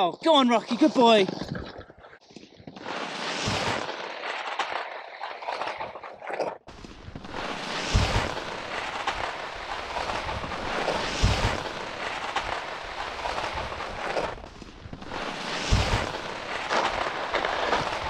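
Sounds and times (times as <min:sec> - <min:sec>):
skis scraping over snow: 0:00.0 - 0:01.6, 0:02.2 - 0:18.0.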